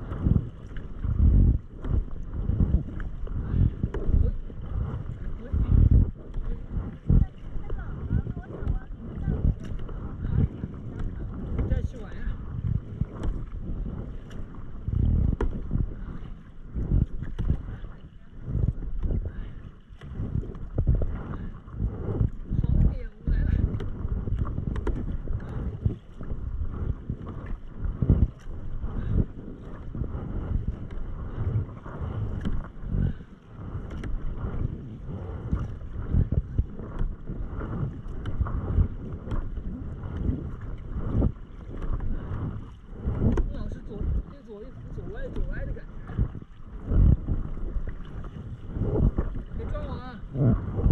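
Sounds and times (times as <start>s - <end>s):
paddle splashing through water: 0.0s - 50.9s
wind rumbling on microphone: 0.0s - 50.9s.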